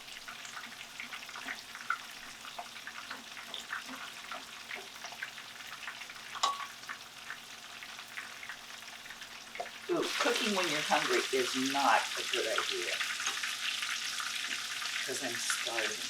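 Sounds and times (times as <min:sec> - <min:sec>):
steak frying in hot oil: 0:00.0 - 0:16.0.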